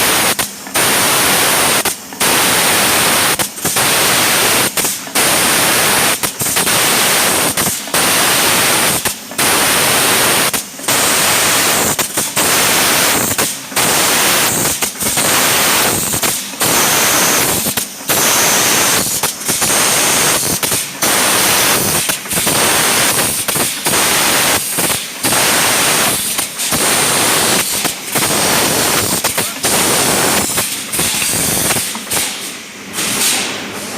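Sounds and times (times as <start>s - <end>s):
foam filling machine hissing: 0.0s - 33.9s.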